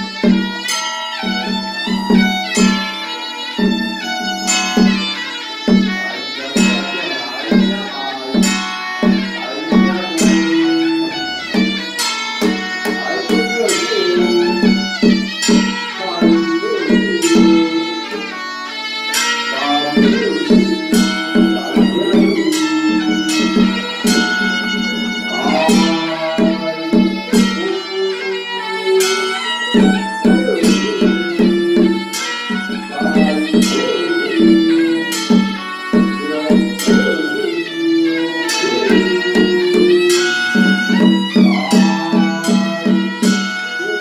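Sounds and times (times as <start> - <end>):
bowed fiddle melody: 0.0 - 44.0
plucked strings: 0.0 - 44.0
traditional instrumental ritual music: 0.0 - 44.0.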